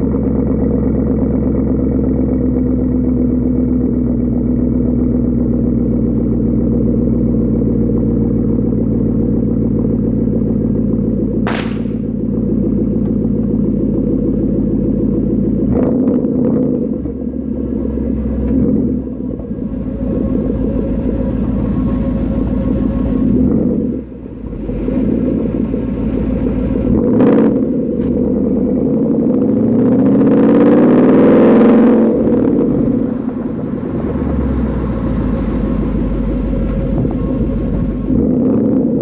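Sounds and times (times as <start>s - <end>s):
car exhaust rumble: 0.0s - 39.0s.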